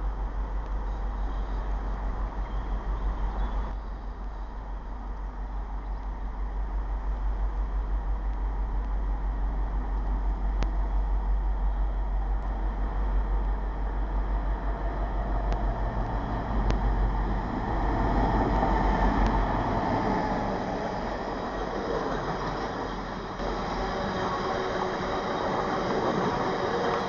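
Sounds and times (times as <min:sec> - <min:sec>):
diesel locomotive engine: 0:00.0 - 0:27.0
freight train rumbling past: 0:00.0 - 0:27.0.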